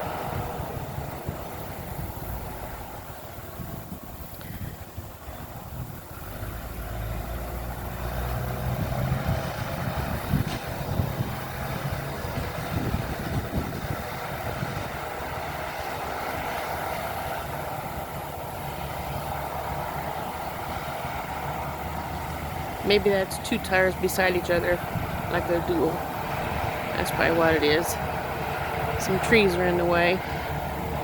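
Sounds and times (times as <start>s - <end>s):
bulldozer diesel engine: 0.0s - 31.0s.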